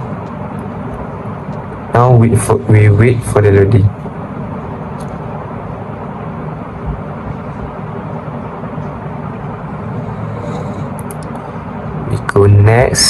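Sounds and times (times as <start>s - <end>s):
faint steady hum: 0.0s - 13.0s
low rumble and hiss: 0.0s - 13.0s.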